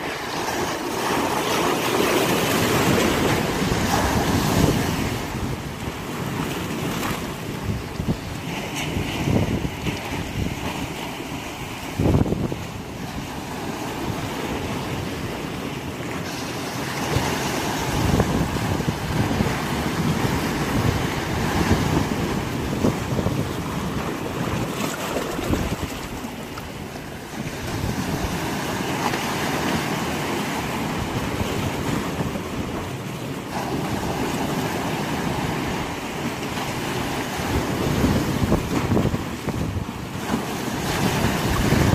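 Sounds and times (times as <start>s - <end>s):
sea waves breaking on rocks: 0.0s - 41.9s.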